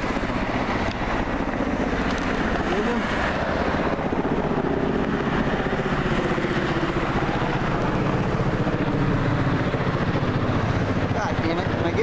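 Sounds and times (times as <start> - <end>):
engine drone: 0.0 - 12.0
helicopter rotors beating: 0.0 - 12.0.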